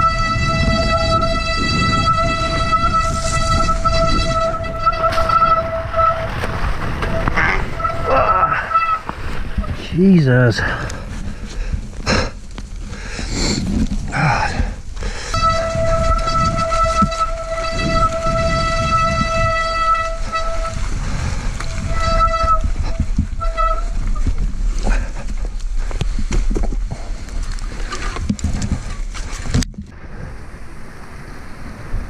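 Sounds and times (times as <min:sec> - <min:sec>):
tyres rumbling on snowy trail: 0:00.0 - 0:32.0.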